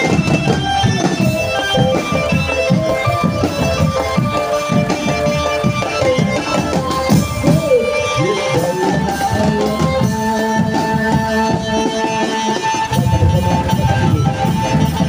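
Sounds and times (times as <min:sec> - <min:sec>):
drum band playing: 0:00.0 - 0:15.0
held melodic lead line: 0:00.0 - 0:15.0.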